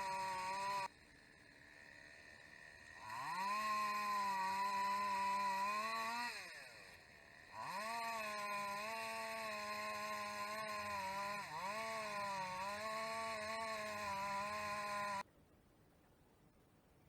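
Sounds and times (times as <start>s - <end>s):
small power-tool engine running: 0.0s - 15.2s.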